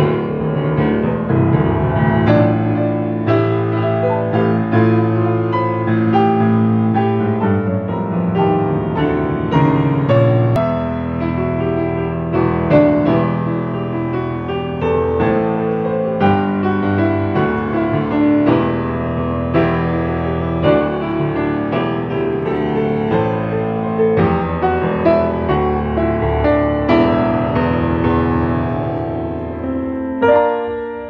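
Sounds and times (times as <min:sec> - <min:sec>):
grand piano playing chords: 0:00.0 - 0:31.0.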